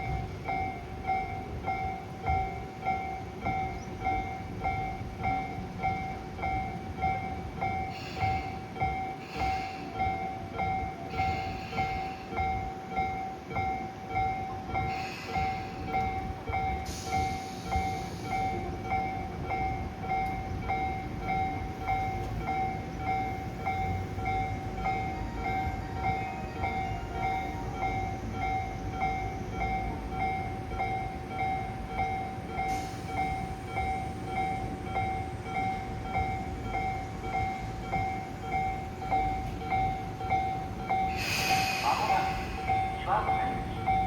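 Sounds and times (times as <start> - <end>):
level crossing alarm ringing: 0.0 - 44.0
low rumble of trains: 0.0 - 44.0.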